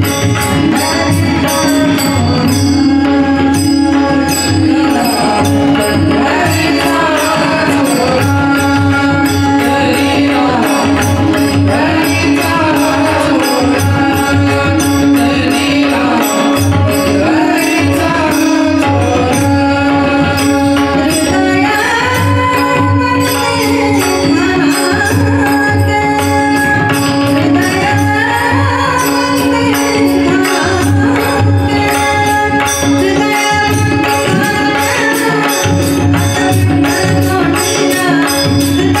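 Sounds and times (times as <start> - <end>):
harmonium: 0.0 - 39.0
woman singing devotional song: 0.0 - 39.0.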